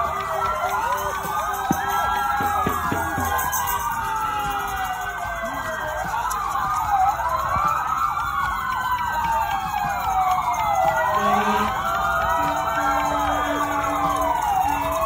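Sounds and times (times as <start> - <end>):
emergency sirens wailing: 0.0 - 15.0.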